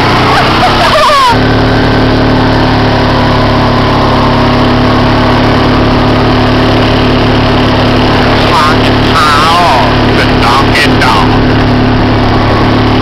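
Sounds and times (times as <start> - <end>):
quad engine running: 0.0 - 13.0.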